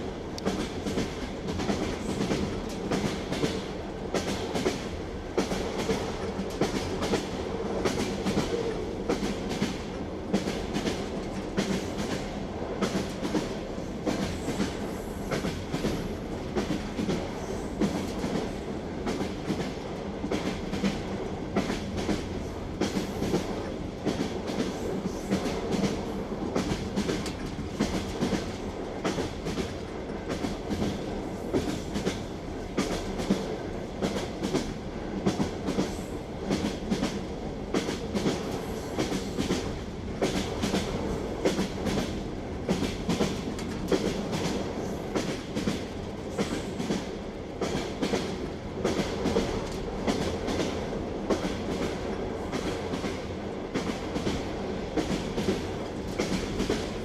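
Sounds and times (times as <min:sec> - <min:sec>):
railway carriage rumble: 0:00.0 - 0:57.0
train wheels clacking on rail joints: 0:00.4 - 0:57.0.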